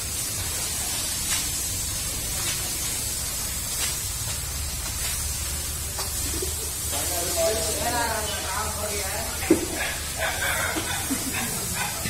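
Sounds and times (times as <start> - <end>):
hose spraying water on concrete: 0.0 - 12.0.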